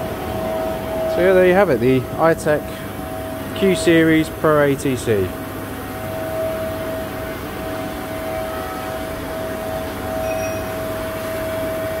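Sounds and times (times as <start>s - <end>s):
vacuum pump whining: 0.0s - 12.0s.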